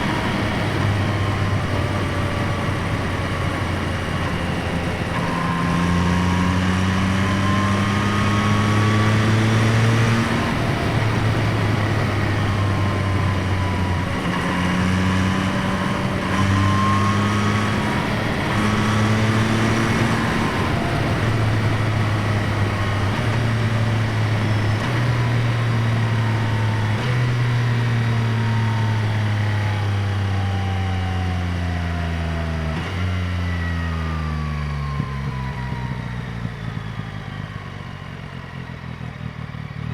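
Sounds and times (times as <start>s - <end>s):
motorcycle engine running under load: 0.0s - 39.9s.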